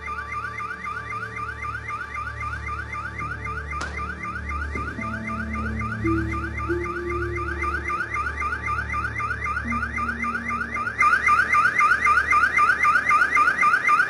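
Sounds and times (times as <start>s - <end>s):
car alarm whooping: 0.0s - 14.0s.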